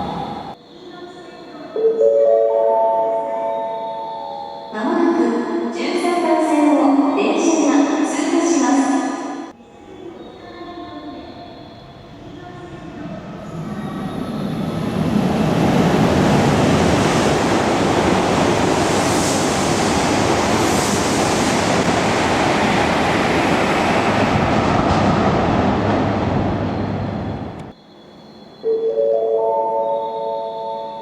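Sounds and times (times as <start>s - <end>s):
high-speed train rushing past: 0.0s - 31.0s.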